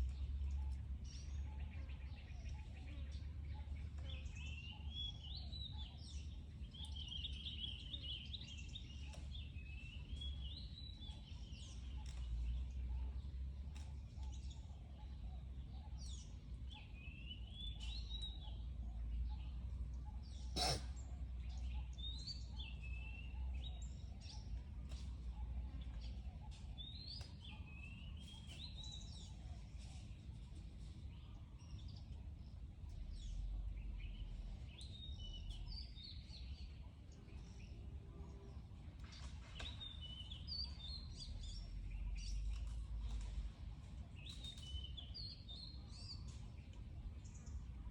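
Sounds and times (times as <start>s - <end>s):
birds chirping: 0.0s - 47.9s
low outdoor rumble: 0.0s - 47.9s.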